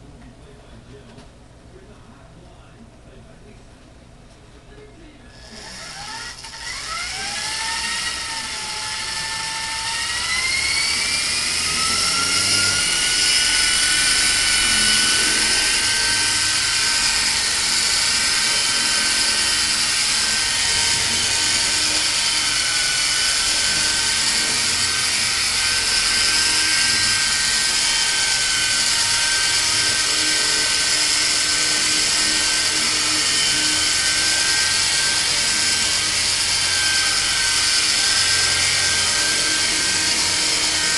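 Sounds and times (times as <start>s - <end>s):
rc helicopter motor whine: 5.4s - 40.9s.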